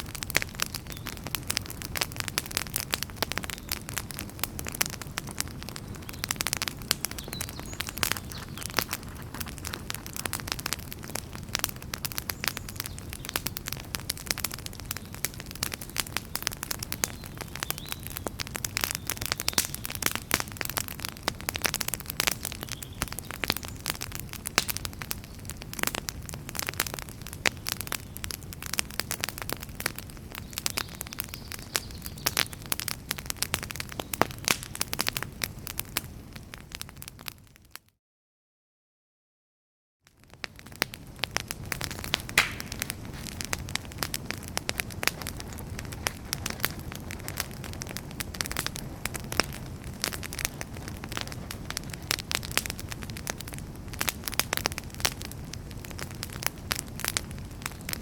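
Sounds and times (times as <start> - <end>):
low rumble of flame: 0.0 - 37.6, 40.2 - 58.0
logs crackling and popping: 0.0 - 37.8, 40.1 - 58.0.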